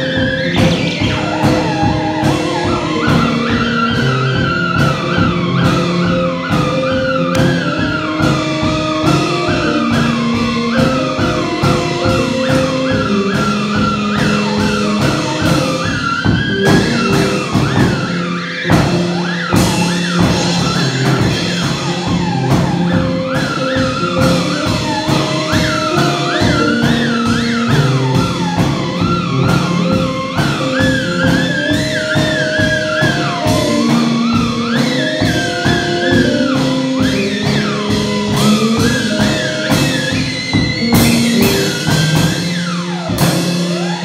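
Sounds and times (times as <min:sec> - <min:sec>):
drum kit beat: 0:00.0 - 0:44.0
held electronic keyboard notes: 0:00.0 - 0:44.0
theremin swooping: 0:00.0 - 0:44.0.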